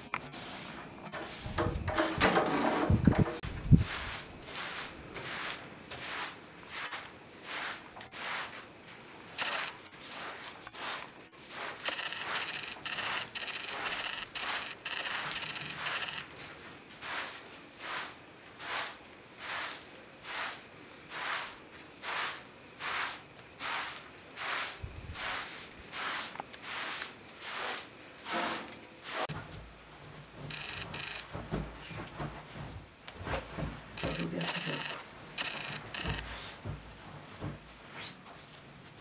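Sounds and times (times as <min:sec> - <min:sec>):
broom sweeping carpet: 0:00.0 - 0:30.4, 0:35.7 - 0:39.0.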